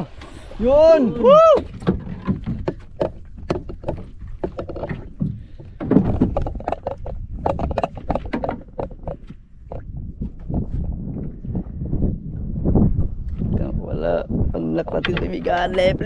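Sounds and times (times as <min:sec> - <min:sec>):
water slapping against hull: 0:00.0 - 0:13.6
rumble of wind and sea: 0:00.0 - 0:16.0.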